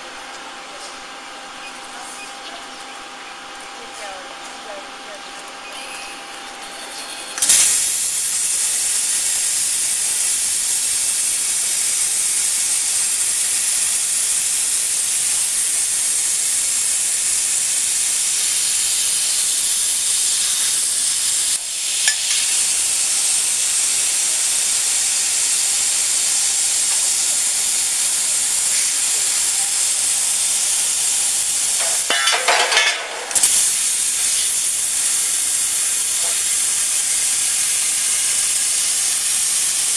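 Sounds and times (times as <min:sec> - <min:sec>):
plasma cutter hissing: 0:04.0 - 0:39.9.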